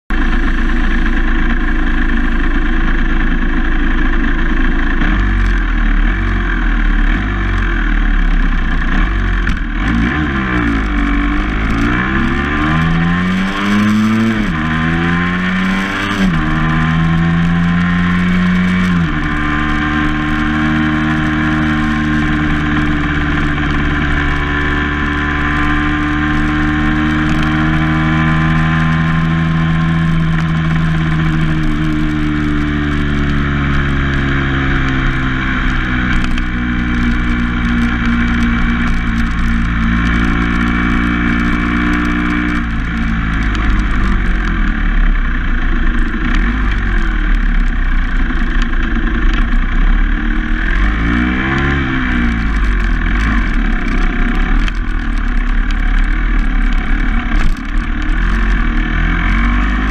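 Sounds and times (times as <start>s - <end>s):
low rumble: 0.1s - 59.9s
vehicle engine accelerating: 0.1s - 59.9s.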